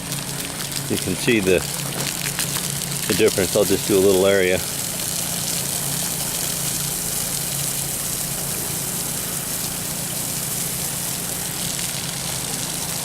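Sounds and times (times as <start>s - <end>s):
water hose spraying on shingles: 0.0s - 13.0s.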